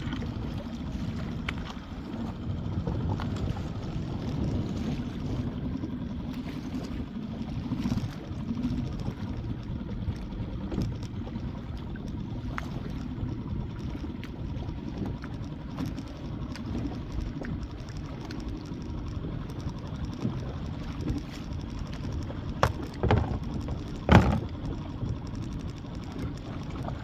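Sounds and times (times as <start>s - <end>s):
faint clicks and knocks: 0.0s - 27.0s
water lapping and splashing: 0.0s - 27.0s.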